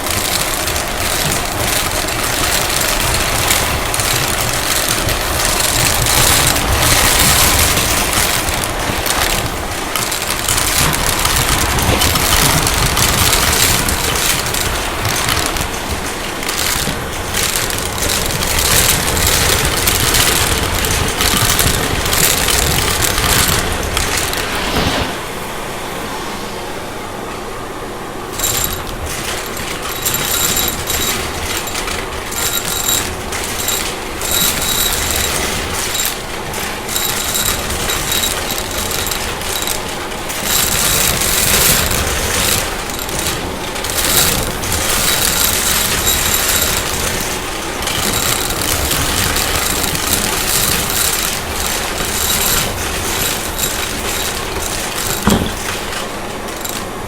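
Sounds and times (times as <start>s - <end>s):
debris rattling in vacuum: 0.0s - 25.1s, 28.4s - 57.0s.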